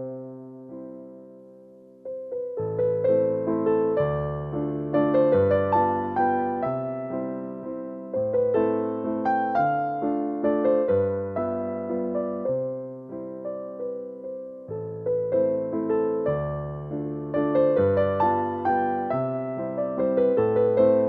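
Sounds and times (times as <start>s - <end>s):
gentle piano tune: 0.0s - 21.0s.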